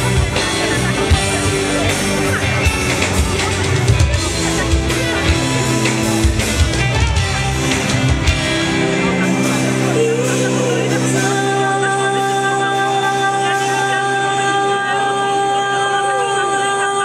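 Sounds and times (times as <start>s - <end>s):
drums: 0.0s - 17.0s
guitar: 0.0s - 17.0s
pop-rock band playing live: 0.0s - 17.0s.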